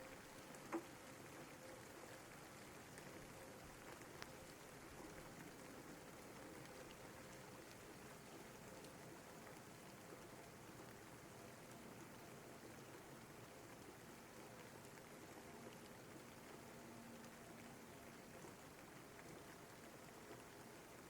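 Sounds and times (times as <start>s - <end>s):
faint steady rain: 0.0s - 21.0s.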